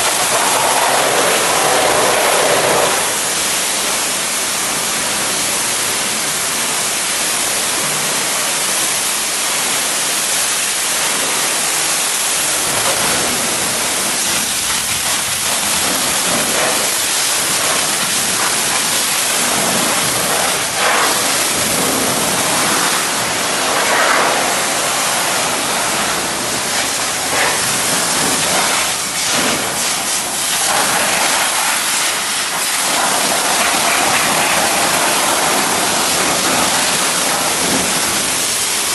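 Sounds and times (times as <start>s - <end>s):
hose water spraying onto car: 0.0s - 38.9s.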